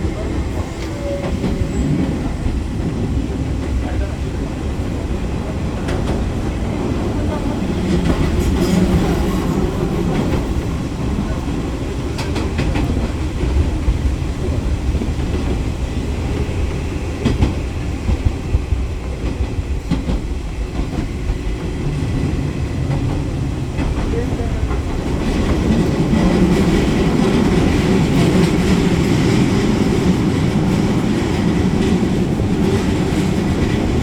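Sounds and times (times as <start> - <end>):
train low rumble: 0.0 - 34.0.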